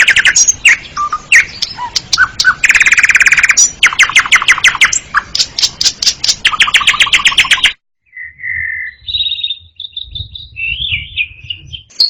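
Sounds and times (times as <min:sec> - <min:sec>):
held bird whistle: 0:00.0 - 0:12.0
starling singing: 0:00.0 - 0:12.0.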